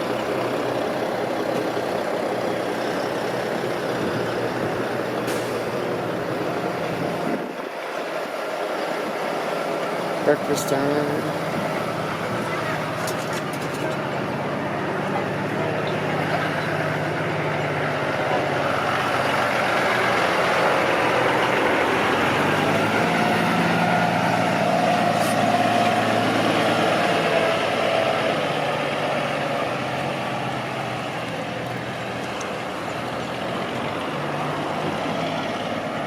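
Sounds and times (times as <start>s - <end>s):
heavy vehicle engine humming: 0.0s - 36.0s
street traffic: 0.0s - 36.0s.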